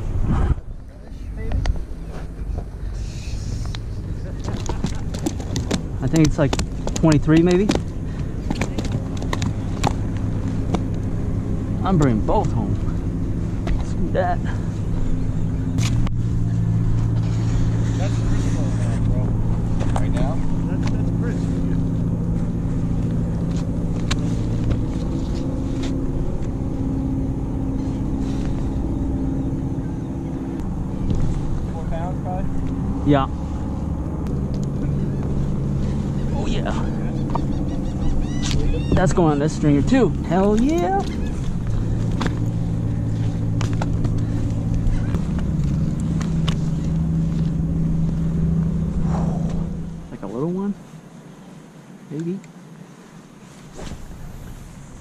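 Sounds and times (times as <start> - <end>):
motor engine droning: 0.0 - 55.0.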